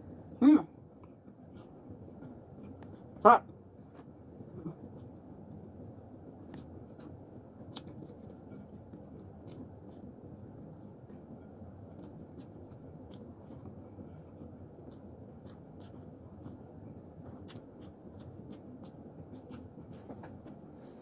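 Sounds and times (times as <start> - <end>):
person chewing food: 0.0 - 5.6, 6.2 - 20.7
steady low hum: 0.0 - 21.0.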